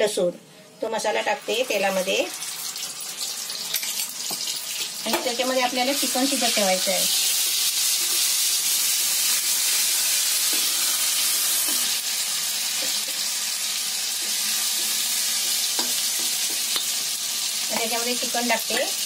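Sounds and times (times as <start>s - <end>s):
paste sizzling in hot oil: 1.4s - 19.0s.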